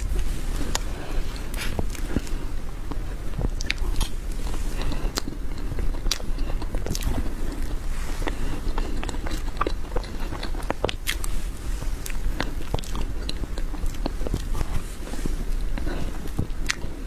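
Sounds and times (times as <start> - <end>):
person chewing cake: 0.0 - 17.0.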